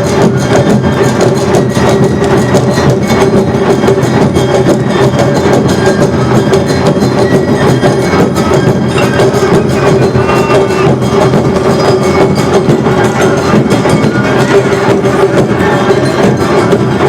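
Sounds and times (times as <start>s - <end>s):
festival band playing: 0.0s - 17.0s
rapid drum strikes: 0.0s - 17.0s
held melody tones: 0.2s - 17.0s.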